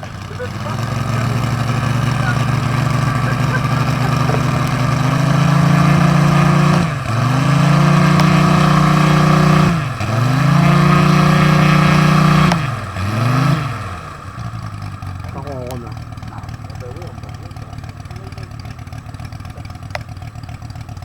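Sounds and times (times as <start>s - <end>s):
simulated radial engine drone: 0.0s - 21.0s.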